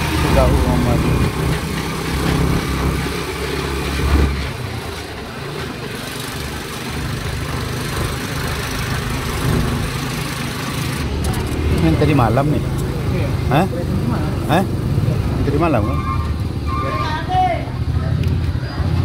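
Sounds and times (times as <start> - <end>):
vehicle engine running: 0.0 - 15.8.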